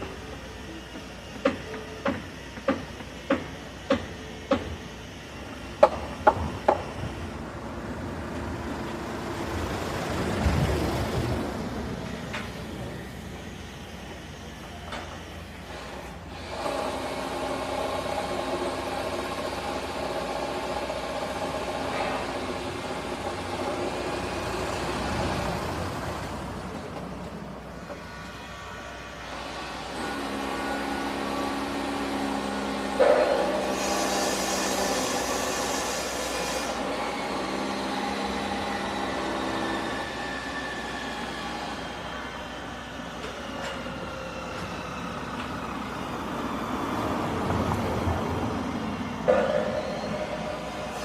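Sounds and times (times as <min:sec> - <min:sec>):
large vehicle humming: 0:00.0 - 0:33.5, 0:35.9 - 0:51.0.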